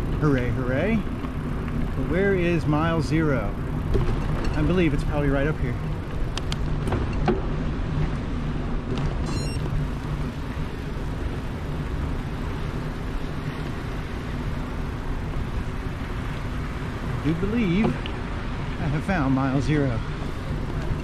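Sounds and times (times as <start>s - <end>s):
bicycle tyres rolling: 0.0s - 21.0s.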